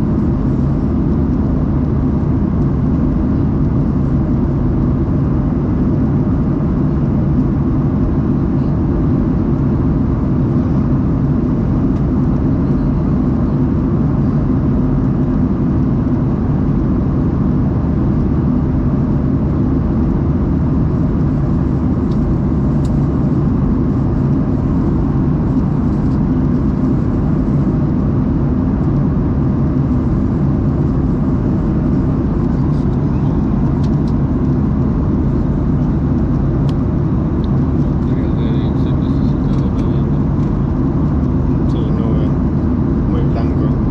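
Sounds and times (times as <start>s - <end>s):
jet engine drone in cabin: 0.0s - 43.9s.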